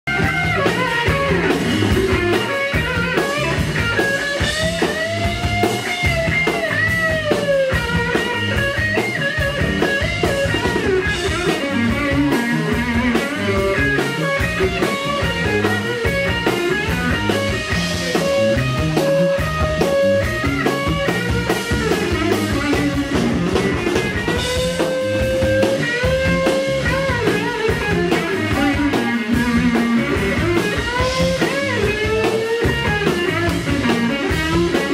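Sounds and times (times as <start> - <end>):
blues band playing: 0.0 - 34.9
electric guitar bending notes: 0.1 - 34.9.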